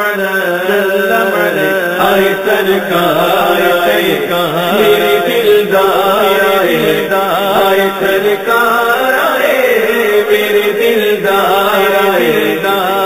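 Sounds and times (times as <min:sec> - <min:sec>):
men singing devotional song: 0:00.0 - 0:13.0.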